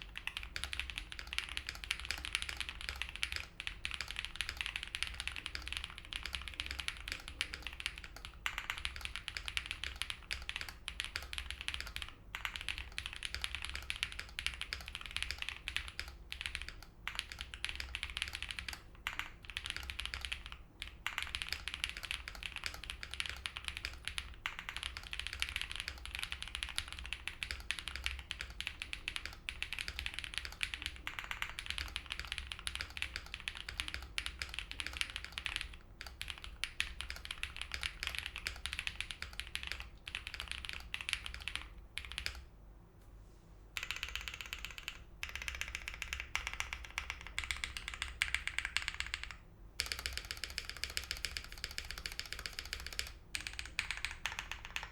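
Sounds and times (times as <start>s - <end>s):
typing on mechanical keyboard: 0.0s - 42.5s, 43.8s - 54.9s.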